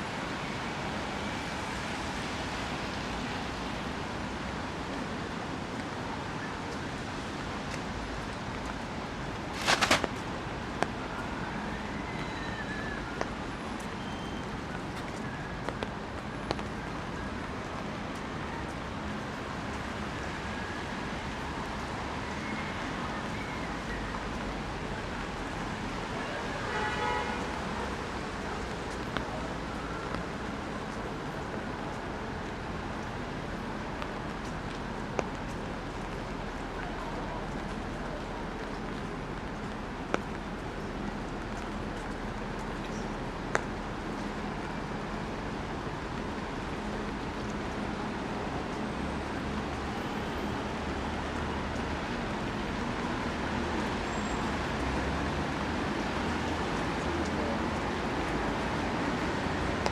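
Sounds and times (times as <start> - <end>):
rain hissing on street: 0.0 - 59.9
traffic rumble: 3.1 - 59.9.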